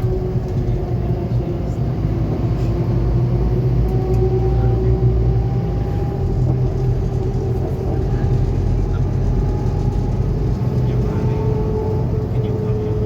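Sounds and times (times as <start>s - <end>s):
bus diesel engine rumbling: 0.0s - 13.0s
faint drivetrain whine: 0.0s - 13.0s.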